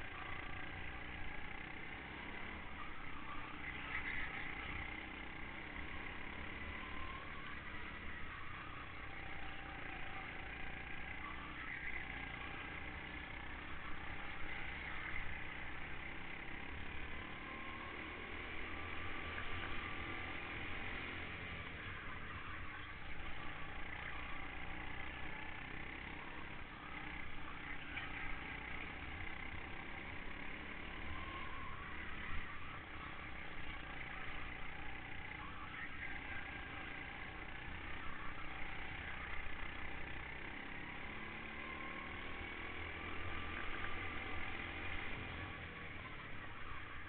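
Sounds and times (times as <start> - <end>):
go-kart engine running: 0.0 - 47.0.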